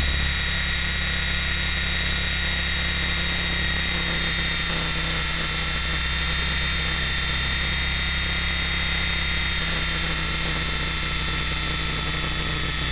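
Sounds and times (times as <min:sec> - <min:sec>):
model helicopter motor and rotor: 0:00.0 - 0:12.9.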